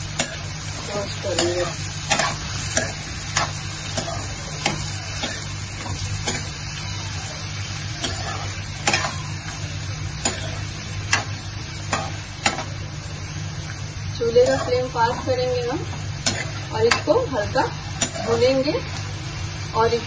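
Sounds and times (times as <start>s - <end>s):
vegetables sizzling in butter: 0.0s - 20.0s.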